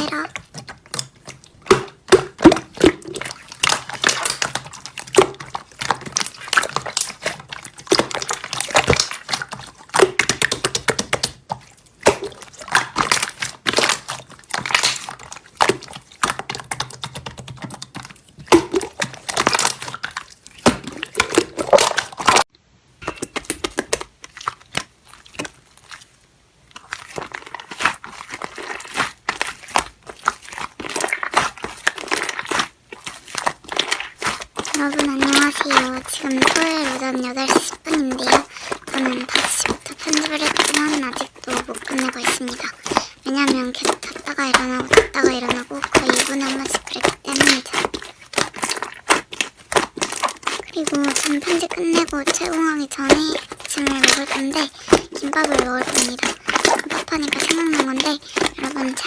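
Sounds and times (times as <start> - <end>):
slime squished by hand: 0.0 - 59.0.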